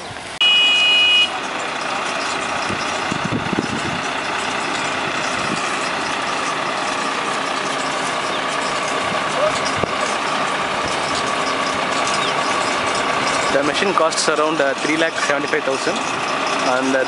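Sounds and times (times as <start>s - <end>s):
tractor and baler droning: 0.0s - 17.0s.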